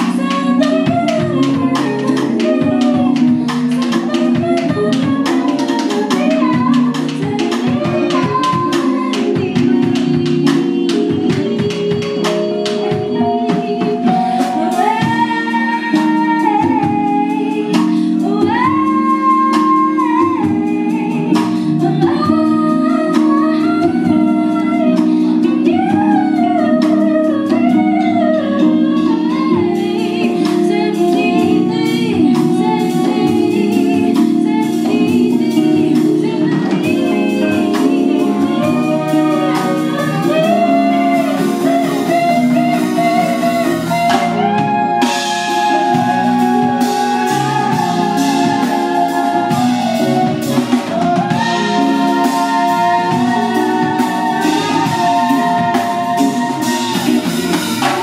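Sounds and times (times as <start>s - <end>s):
live band jamming: 0.0s - 58.0s
saxophone: 0.0s - 58.0s.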